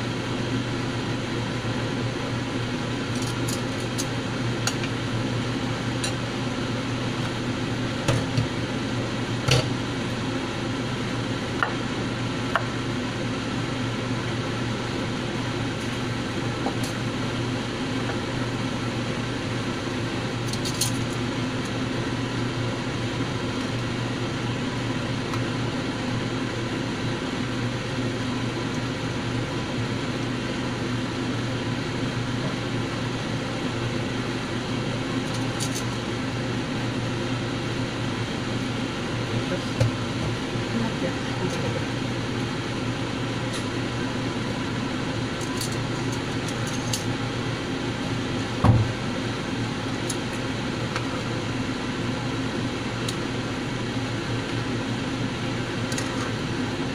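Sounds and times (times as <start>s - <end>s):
gas stove burner hum and hiss: 0.0s - 56.9s.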